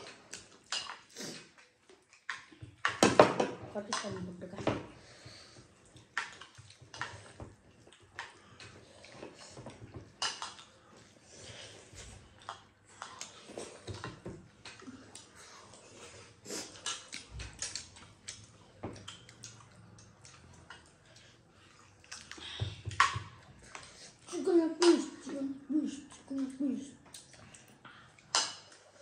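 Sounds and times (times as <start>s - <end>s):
chewing and mouth smacking: 0.0s - 3.0s, 5.7s - 25.3s, 25.9s - 29.0s.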